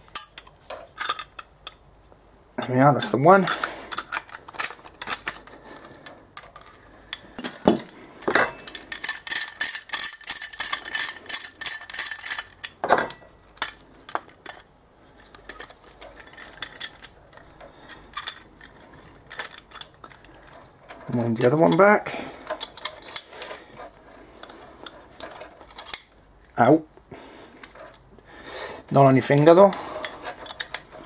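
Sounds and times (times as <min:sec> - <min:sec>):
metal clinks and knocks: 0:00.0 - 0:01.8, 0:02.6 - 0:26.6, 0:29.1 - 0:31.0.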